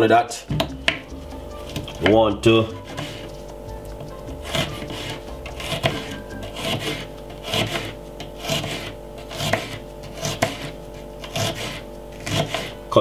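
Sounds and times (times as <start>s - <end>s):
background music: 0.0s - 13.0s
knife slicing onion on board: 0.6s - 3.4s, 4.0s - 12.9s.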